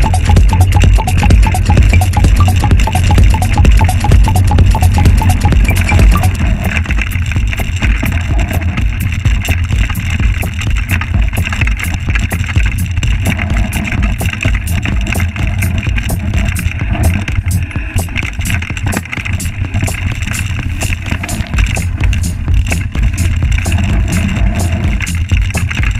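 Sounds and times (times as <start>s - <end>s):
bike rattling clicks and knocks: 5.1s - 25.9s.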